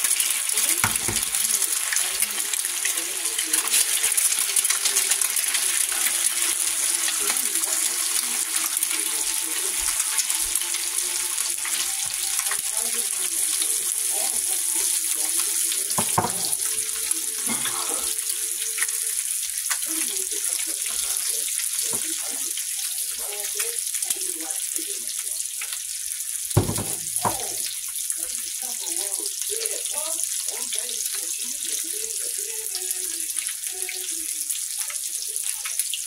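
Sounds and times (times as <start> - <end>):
eggs sizzling in grease: 0.0 - 36.0.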